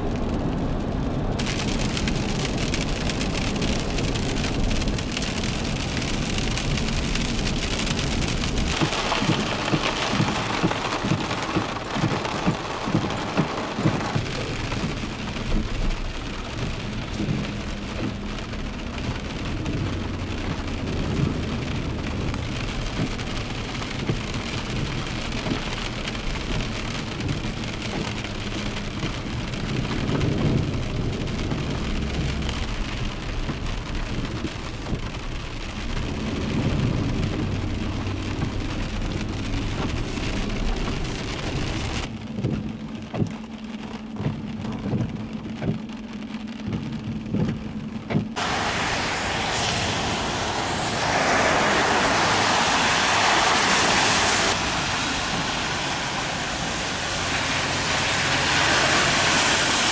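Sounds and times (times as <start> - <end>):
heavy rain on flooded street: 0.0 - 59.9
low steady rumble: 0.0 - 59.9.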